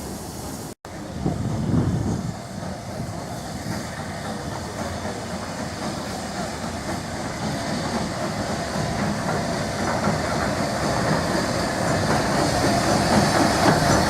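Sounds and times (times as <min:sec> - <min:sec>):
train rumble with rail clatter: 0:00.0 - 0:14.0.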